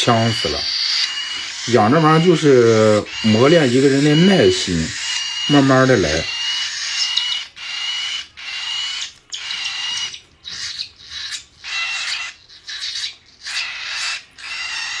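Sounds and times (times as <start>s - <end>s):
parrot chicks begging calls: 0.0s - 15.0s.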